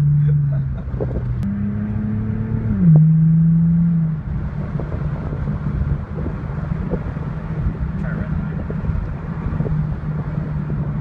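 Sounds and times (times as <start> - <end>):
car exhaust droning: 0.0 - 11.0.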